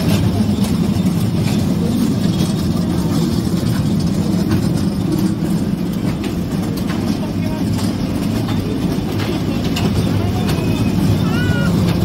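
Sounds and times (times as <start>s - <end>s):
kiddie train rumbling on track: 0.0s - 12.0s.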